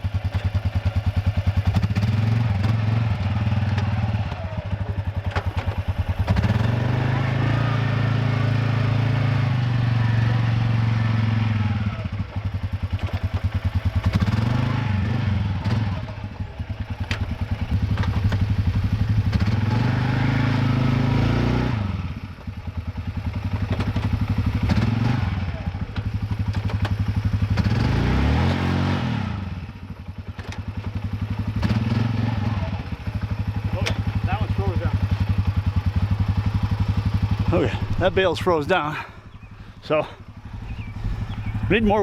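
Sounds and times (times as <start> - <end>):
atv engine revving and idling: 0.0 - 42.0.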